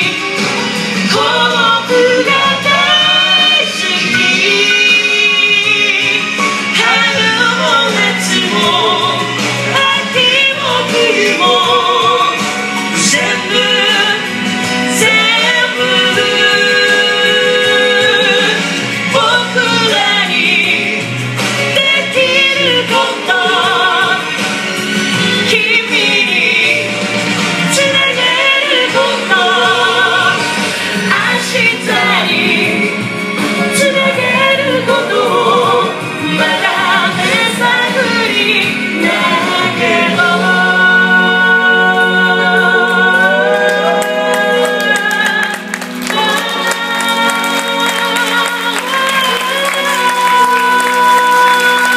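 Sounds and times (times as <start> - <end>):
crowd singing in chorus: 0.0 - 51.9
person singing into a microphone: 0.0 - 51.9.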